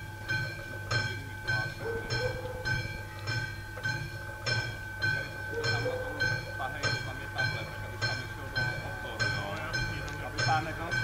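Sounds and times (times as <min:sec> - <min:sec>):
level-crossing warning bell ringing: 0:00.0 - 0:11.0.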